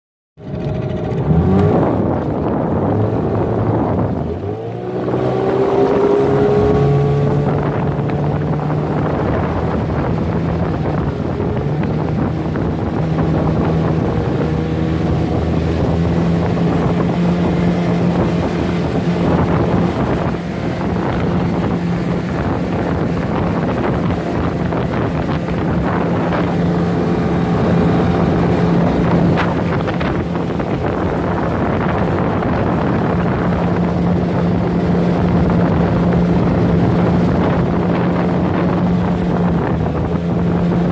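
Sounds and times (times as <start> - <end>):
boat engine running: 0.4 - 40.9.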